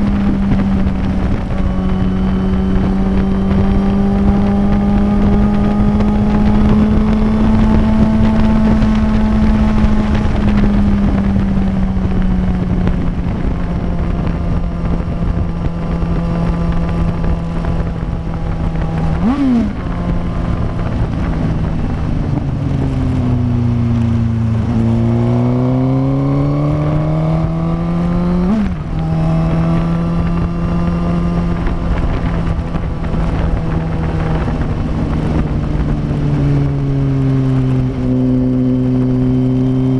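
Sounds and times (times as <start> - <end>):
motorcycle engine: 0.0 - 39.9
wind rush: 0.0 - 39.9.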